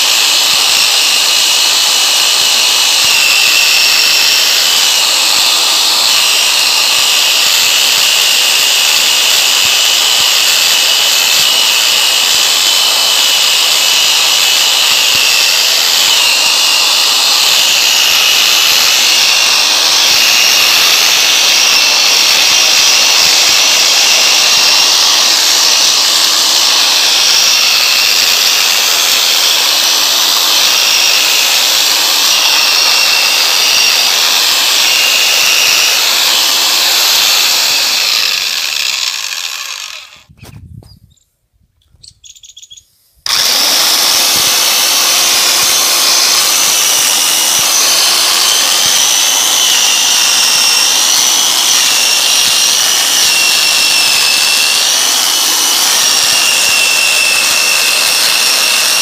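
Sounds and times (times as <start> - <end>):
electric chainsaw cutting log: 0.0 - 40.3, 43.2 - 59.0.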